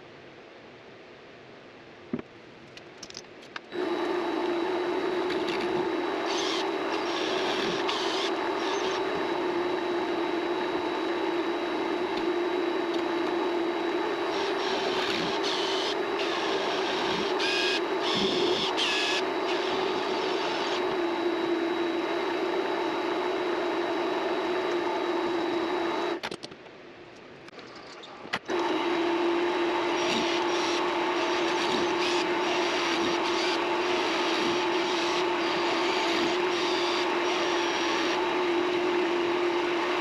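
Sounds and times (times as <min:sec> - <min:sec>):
lathe motor humming and whining: 0:03.7 - 0:26.2, 0:28.5 - 0:40.0.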